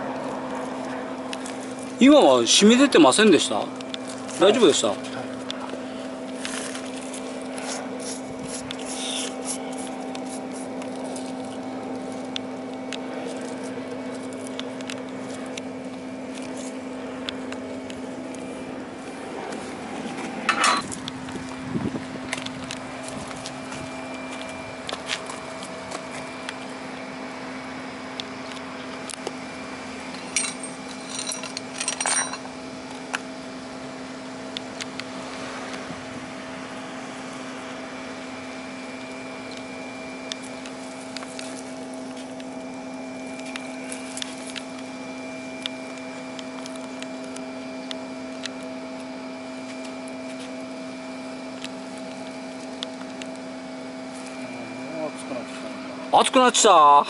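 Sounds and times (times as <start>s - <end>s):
crinkly handling rustle: 0.0s - 33.6s, 37.2s - 55.9s
machinery hum: 0.0s - 57.0s.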